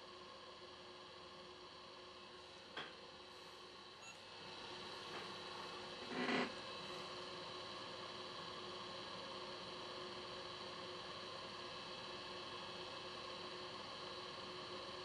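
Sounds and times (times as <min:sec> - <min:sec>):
hot air station hum: 0:00.9 - 0:15.0.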